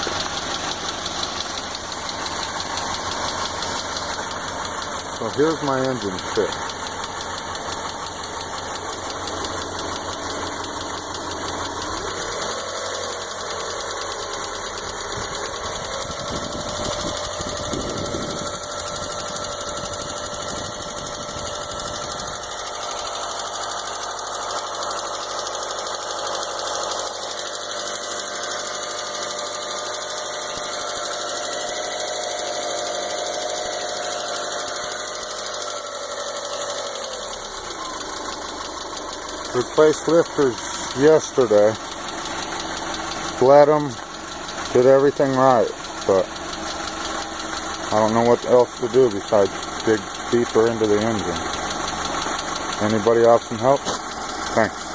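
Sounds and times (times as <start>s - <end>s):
car engine running: 0.0s - 54.9s
rapid engine ticking: 0.0s - 54.9s.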